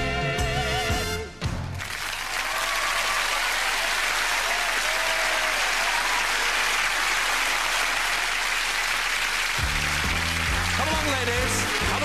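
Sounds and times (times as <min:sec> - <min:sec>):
audience applauding: 0:01.7 - 0:12.0.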